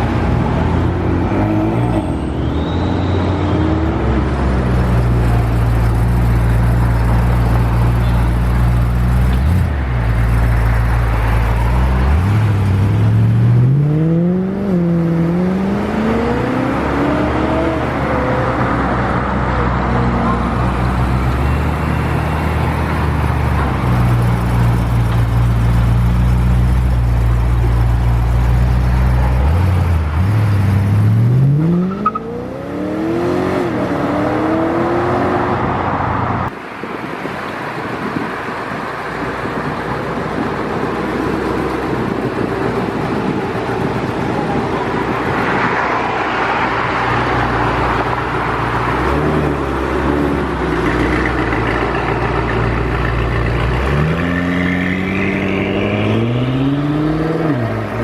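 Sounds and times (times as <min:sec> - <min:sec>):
performance car engines revving: 0:00.0 - 0:36.6, 0:39.5 - 0:58.0
road noise: 0:00.0 - 0:58.0.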